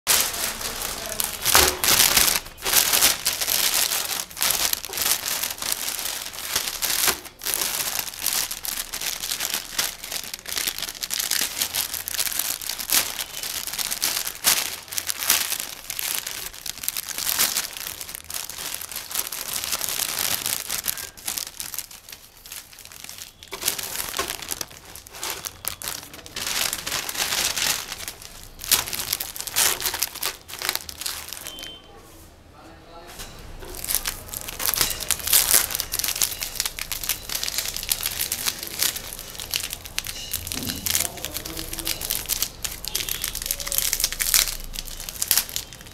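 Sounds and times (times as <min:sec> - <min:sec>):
plastic packaging crinkling and tearing: 0:00.1 - 0:32.0, 0:33.2 - 0:45.9.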